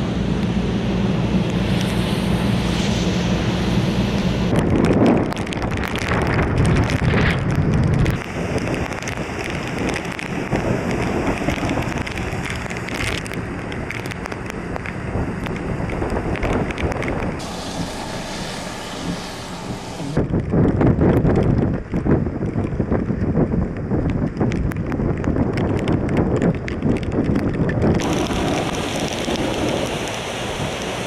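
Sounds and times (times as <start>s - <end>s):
heavy rain: 0.0s - 31.0s
strong wind: 0.0s - 31.0s
wind buffeting microphone: 0.0s - 31.0s.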